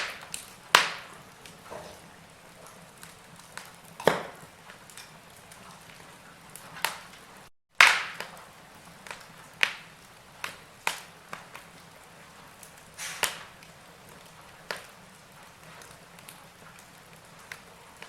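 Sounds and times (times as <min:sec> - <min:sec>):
faint steady hiss: 0:00.0 - 0:18.0
wood fire crackling and popping: 0:00.0 - 0:18.0.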